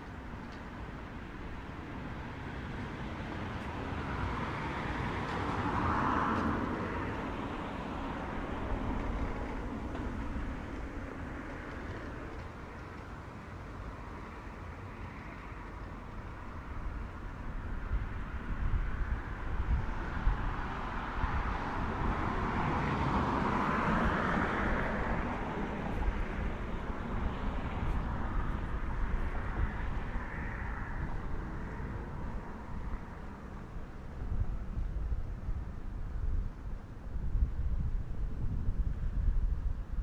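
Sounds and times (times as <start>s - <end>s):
low traffic rumble: 0.0s - 40.0s
car passing: 1.5s - 36.0s.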